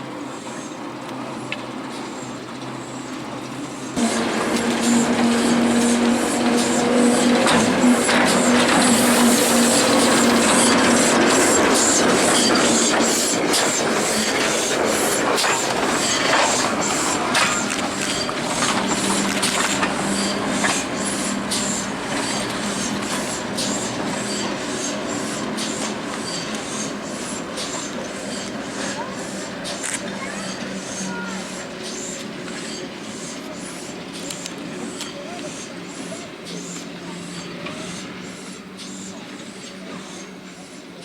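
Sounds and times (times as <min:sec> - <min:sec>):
train rumbling on track: 0:00.0 - 0:41.0
train wheels clicking: 0:01.0 - 0:41.0.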